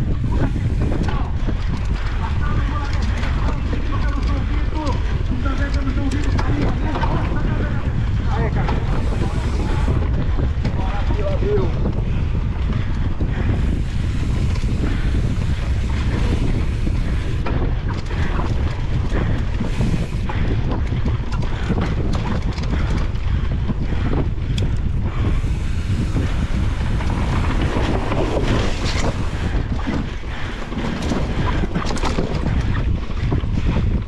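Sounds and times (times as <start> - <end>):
bike knocks and rattles: 0.0 - 34.0
heavy rumble: 0.0 - 34.0
wind buffeting microphone: 0.0 - 34.0.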